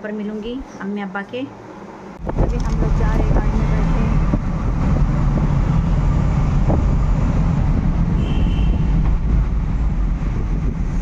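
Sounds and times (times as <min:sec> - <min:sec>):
car road noise: 0:01.6 - 0:11.0.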